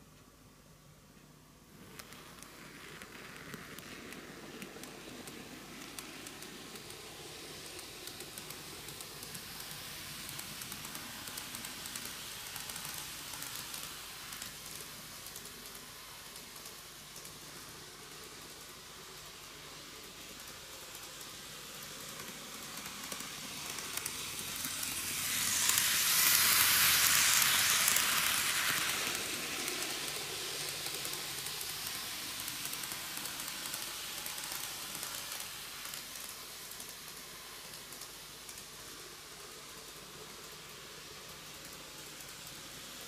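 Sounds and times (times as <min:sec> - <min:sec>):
model train wheels and motor hissing: 0:00.0 - 0:43.0.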